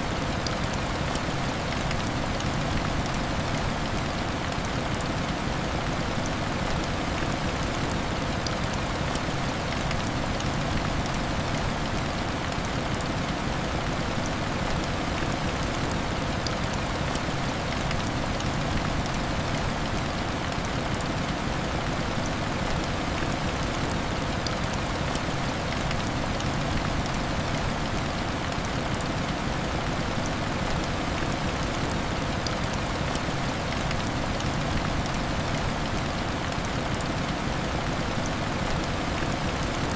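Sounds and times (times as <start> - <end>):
heavy rain on window glass: 0.0 - 39.9.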